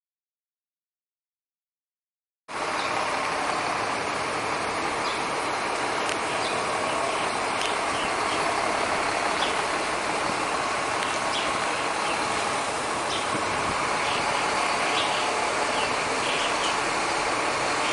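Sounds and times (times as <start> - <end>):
bus diesel engine driving: 2.5 - 17.9.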